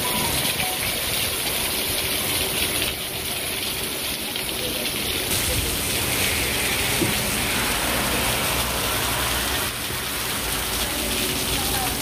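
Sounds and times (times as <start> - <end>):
heavy rain on asphalt: 0.0 - 12.0.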